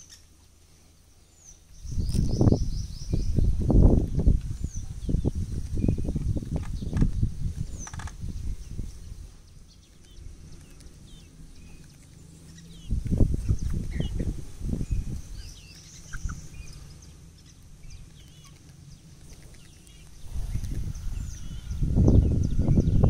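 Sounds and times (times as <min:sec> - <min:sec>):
small birds chirping: 0:00.0 - 0:23.0
low rumbling noise: 0:00.6 - 0:23.0.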